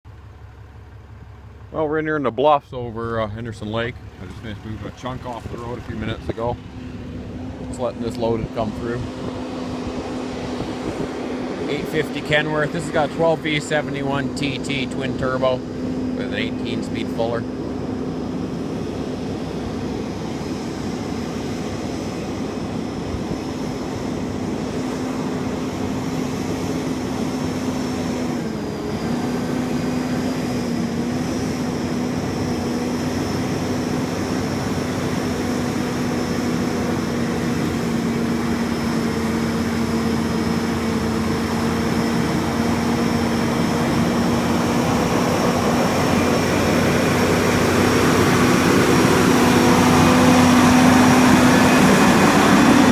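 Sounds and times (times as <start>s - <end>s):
high turbo whine: 0.0s - 52.9s
truck diesel engine under load: 0.0s - 52.9s.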